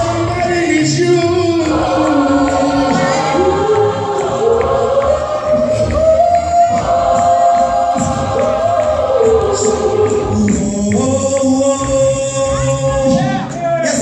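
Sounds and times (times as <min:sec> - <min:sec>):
gospel choir singing: 0:00.0 - 0:13.3
percussion beat clicks: 0:00.0 - 0:14.0.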